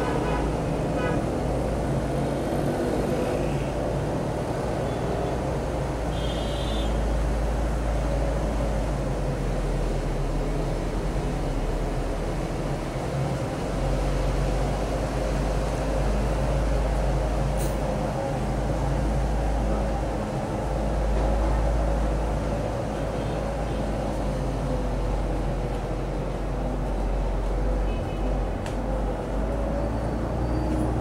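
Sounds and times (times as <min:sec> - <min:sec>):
low rumble of traffic: 0:00.0 - 0:31.0.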